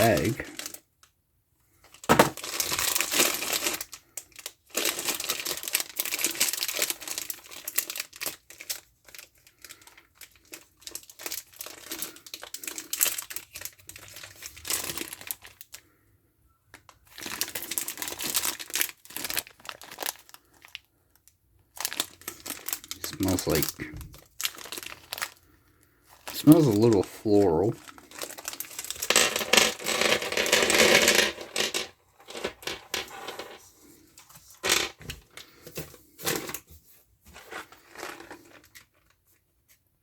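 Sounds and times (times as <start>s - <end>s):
plastic bag crinkling: 0.0s - 0.8s, 1.8s - 16.0s, 16.8s - 33.6s, 37.4s - 39.2s.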